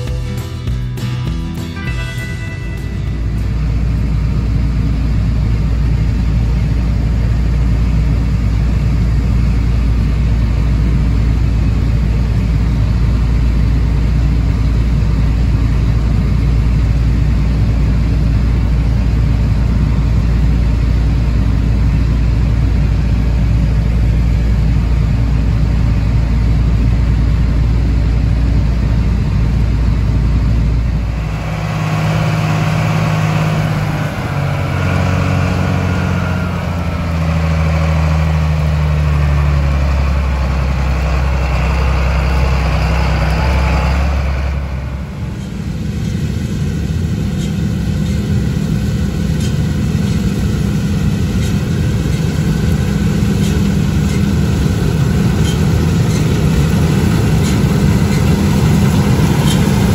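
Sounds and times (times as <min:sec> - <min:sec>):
diesel machinery drone: 0:00.0 - 0:59.9
engine hum with shifting tones: 0:00.0 - 0:59.9.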